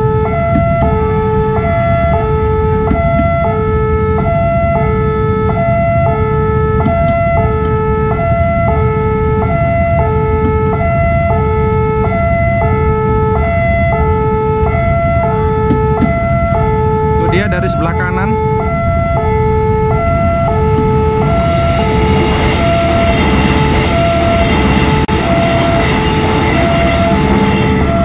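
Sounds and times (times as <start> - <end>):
level crossing two-tone alarm: 0.0 - 28.0.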